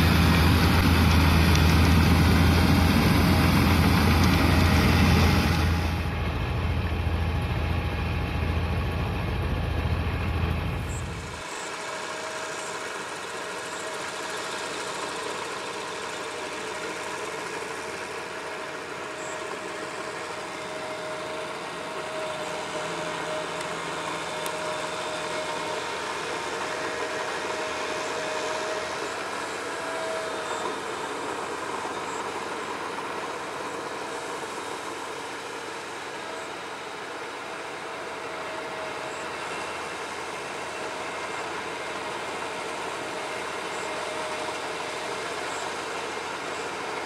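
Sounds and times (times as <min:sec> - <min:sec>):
continuous whine: 0:00.0 - 0:47.0
tractor engine running: 0:00.0 - 0:47.0.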